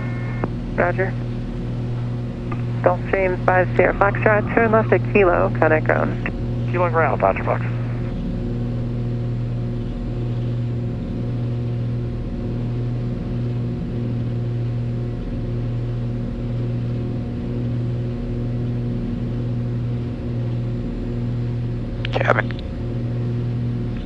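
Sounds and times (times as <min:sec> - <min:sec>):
aircraft propeller engines droning: 0:00.0 - 0:24.0.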